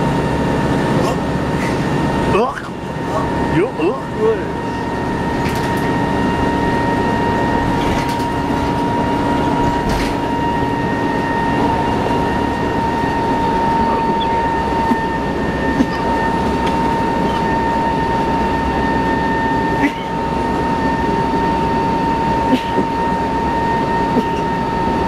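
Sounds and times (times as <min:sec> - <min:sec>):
road noise: 0:00.0 - 0:24.5
bus engine drone: 0:00.0 - 0:25.0
high-pitched whine: 0:00.0 - 0:25.0.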